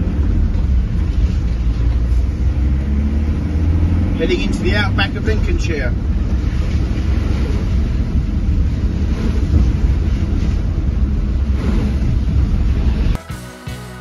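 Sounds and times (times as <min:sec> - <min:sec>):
wind noise: 0:00.0 - 0:13.2
engine and road noise: 0:00.0 - 0:14.0.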